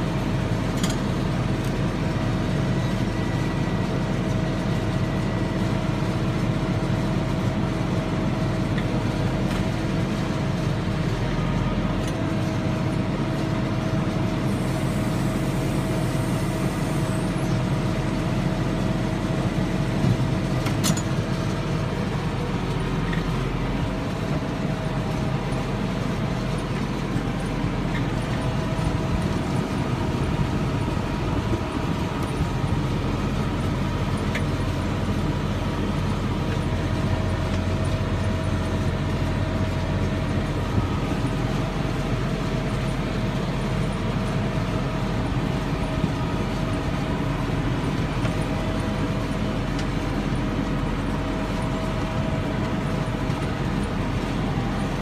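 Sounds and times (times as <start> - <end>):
steady whine: 0.0 - 55.0
tractor diesel engine running: 0.0 - 55.0.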